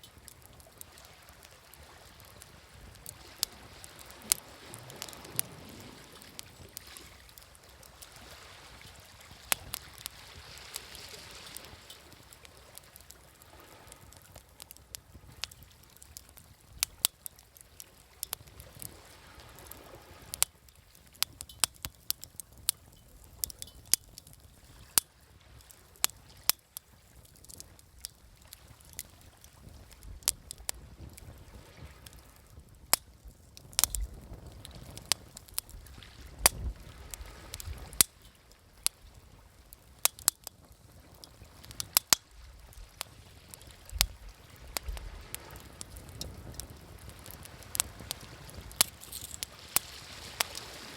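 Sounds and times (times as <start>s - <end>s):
sea waves: 0.0s - 24.0s, 24.6s - 33.0s, 33.9s - 40.3s, 41.3s - 50.9s
campfire crackling and popping: 0.0s - 50.9s.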